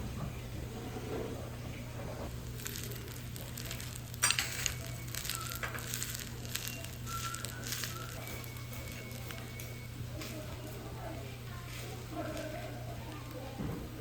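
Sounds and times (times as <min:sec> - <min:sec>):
steady low hum: 0:00.0 - 0:14.0
crackling and sizzling: 0:02.2 - 0:14.0.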